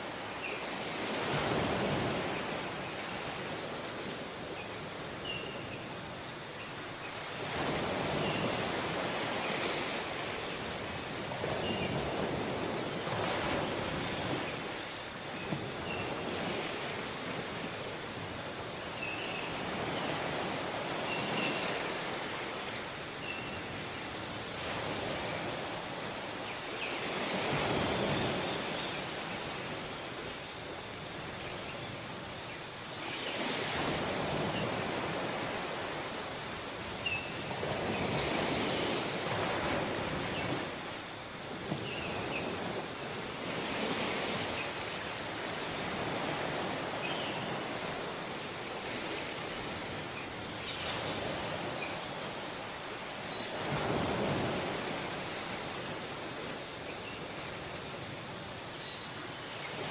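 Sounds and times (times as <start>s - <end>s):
waves breaking on beach: 0.0s - 59.9s.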